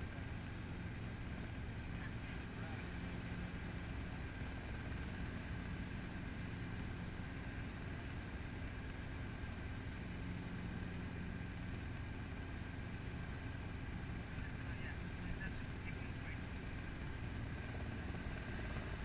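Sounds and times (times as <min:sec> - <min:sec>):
helicopter engine and rotors drone: 0:00.0 - 0:19.0.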